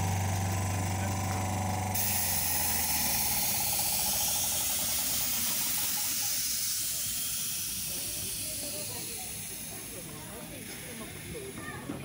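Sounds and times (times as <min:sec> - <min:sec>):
tram hum and whine: 0:00.0 - 0:12.0
steady high hiss: 0:02.0 - 0:11.9.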